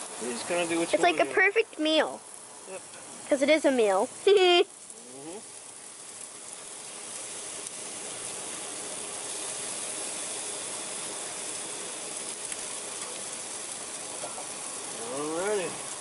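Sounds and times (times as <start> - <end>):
food sizzling on grill: 0.0 - 16.0.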